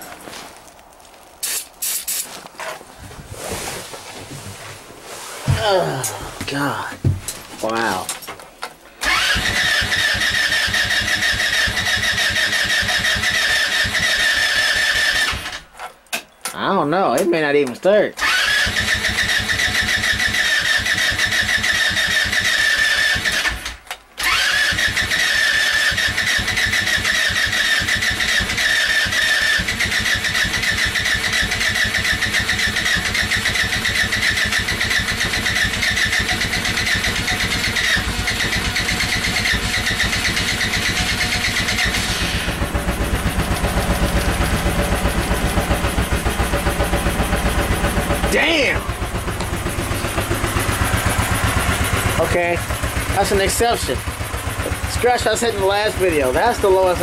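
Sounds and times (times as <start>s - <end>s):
electric starter cranking engine: 9.0s - 15.8s, 18.2s - 57.0s
go-kart engine running: 9.0s - 15.8s, 18.2s - 57.0s.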